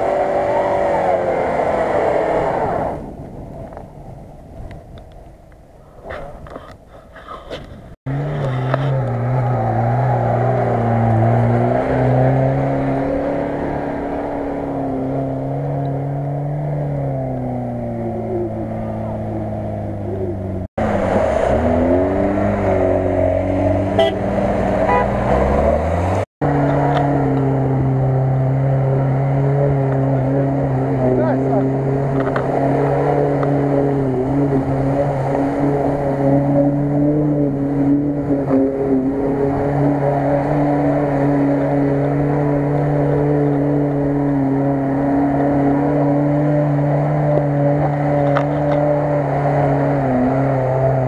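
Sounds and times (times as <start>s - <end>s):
off-road vehicle engine revving: 0.0s - 3.2s, 8.0s - 51.0s.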